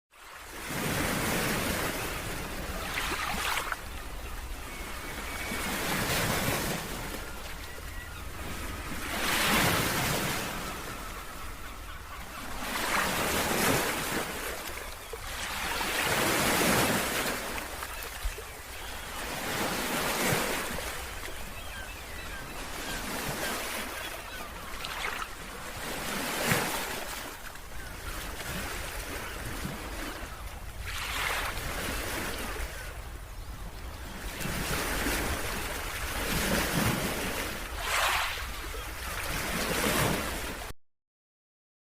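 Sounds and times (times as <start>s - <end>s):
waves breaking: 0.2s - 11.2s, 11.9s - 33.0s, 34.2s - 40.7s.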